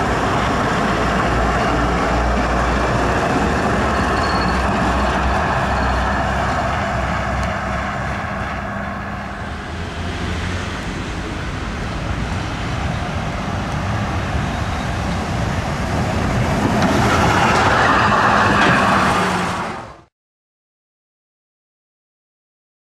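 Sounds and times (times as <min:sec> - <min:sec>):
trams running on rails: 0:00.0 - 0:20.1.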